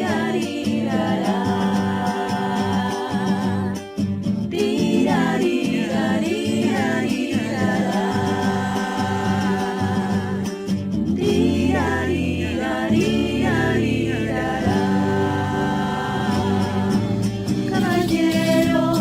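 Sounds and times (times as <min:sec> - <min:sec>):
group of voices singing in harmony: 0:00.0 - 0:19.0.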